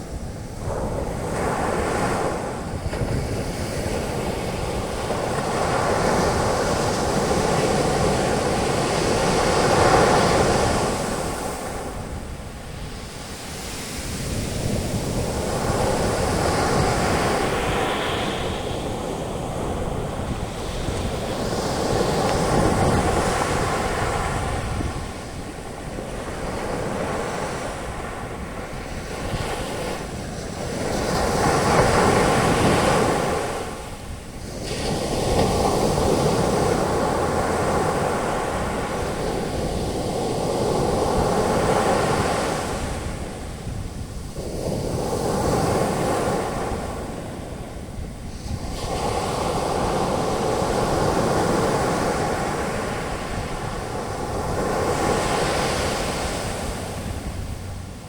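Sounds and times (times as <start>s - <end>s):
waves breaking on beach: 0.0s - 58.0s
wind rumble on microphone: 0.0s - 58.0s.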